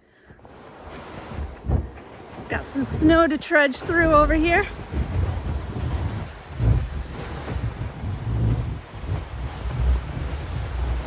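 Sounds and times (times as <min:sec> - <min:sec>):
wind buffeting microphone: 0:00.4 - 0:11.0.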